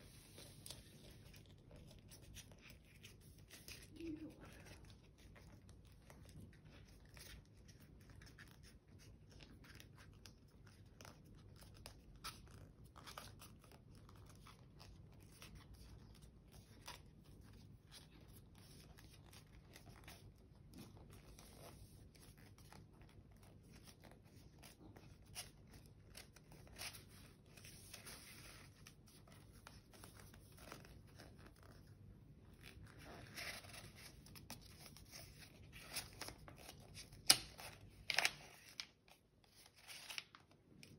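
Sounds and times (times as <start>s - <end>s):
paper rustling and crinkling: 0.0s - 40.9s.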